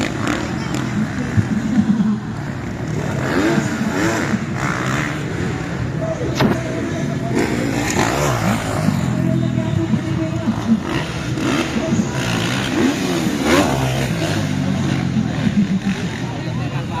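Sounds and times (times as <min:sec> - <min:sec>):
dirt bike engines revving: 0:00.0 - 0:17.0
onlookers' voices: 0:00.0 - 0:17.0.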